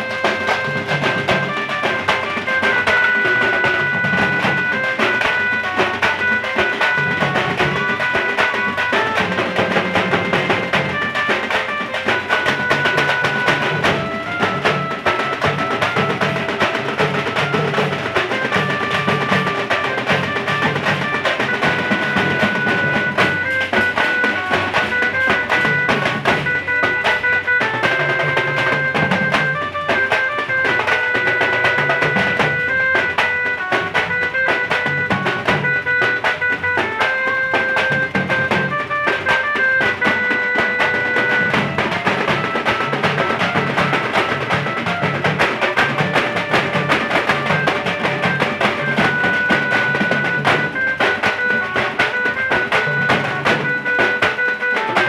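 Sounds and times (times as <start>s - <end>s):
drum band playing: 0.0s - 55.0s
held-note melody: 0.0s - 55.0s.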